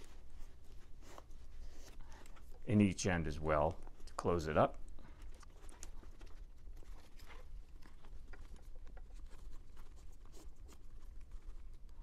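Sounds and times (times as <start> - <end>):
leather rustling: 0.0 - 2.6, 4.8 - 12.0.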